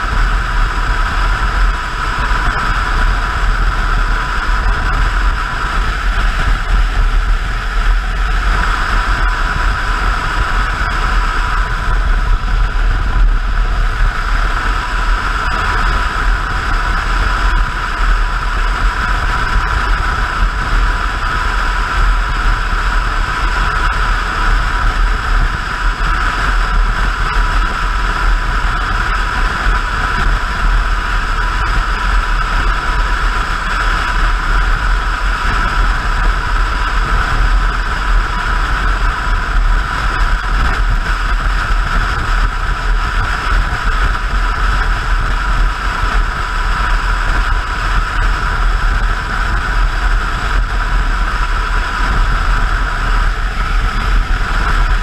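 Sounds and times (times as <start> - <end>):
motorcycle engine running: 0.0 - 55.0
wind rush over microphone: 0.0 - 55.0.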